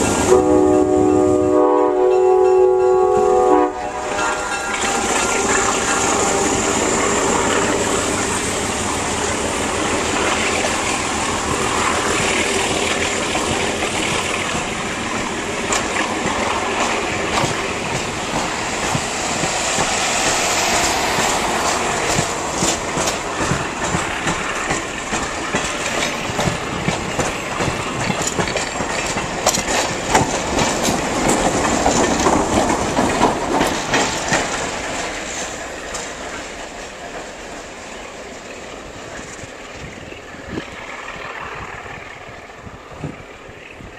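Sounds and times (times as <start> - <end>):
train wheels rumbling on rail: 0.0 - 43.9
wheels clicking over rail joints: 4.1 - 43.9.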